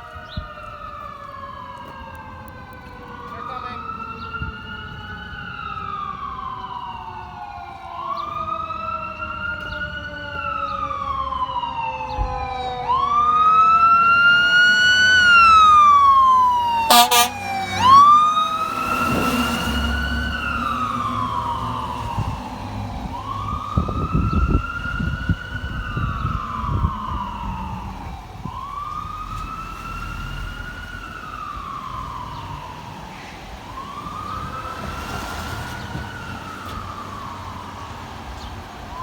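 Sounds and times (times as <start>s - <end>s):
fire truck siren wailing: 0.0s - 39.0s.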